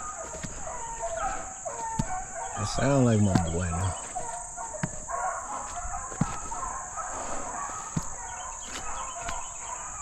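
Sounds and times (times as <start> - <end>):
hounds baying: 0.0 - 10.0.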